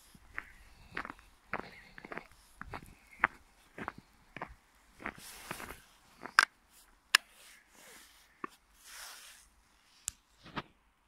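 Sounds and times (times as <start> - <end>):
footsteps crunching through snow: 0.0 - 9.6.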